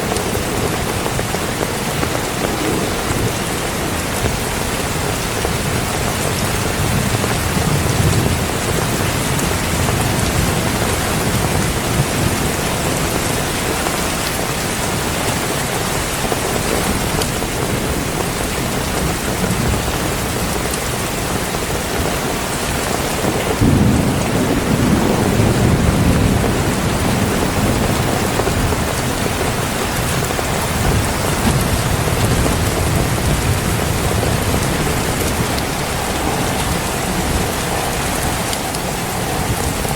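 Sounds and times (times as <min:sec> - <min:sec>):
low rolling thunder: 0:00.0 - 0:16.0, 0:22.8 - 0:39.9
heavy rain falling: 0:00.0 - 0:39.9.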